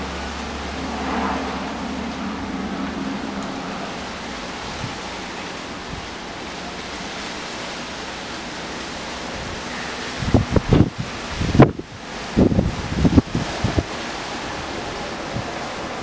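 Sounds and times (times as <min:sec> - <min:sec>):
rushing wind: 0:00.0 - 0:16.0
wind gusts buffeting microphone: 0:00.0 - 0:16.0.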